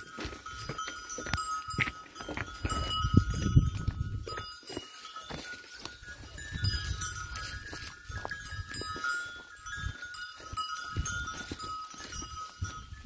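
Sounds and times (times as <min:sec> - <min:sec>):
sheep bells clinking: 0:00.0 - 0:13.0.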